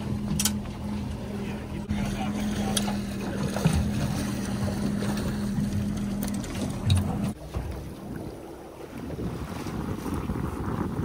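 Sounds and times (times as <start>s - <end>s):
outboard motor humming: 0.0s - 11.0s
water against hull: 0.0s - 11.0s
wind: 0.0s - 11.0s.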